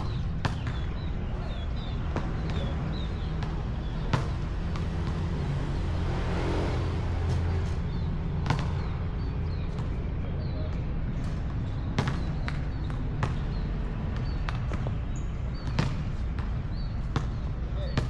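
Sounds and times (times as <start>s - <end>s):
basketball bouncing: 0.0s - 5.5s, 7.1s - 18.0s.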